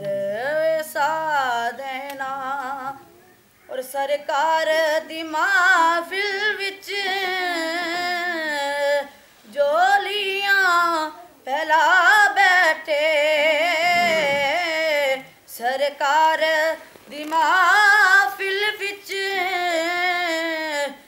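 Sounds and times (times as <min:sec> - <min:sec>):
boy singing unaccompanied: 0:00.0 - 0:21.0.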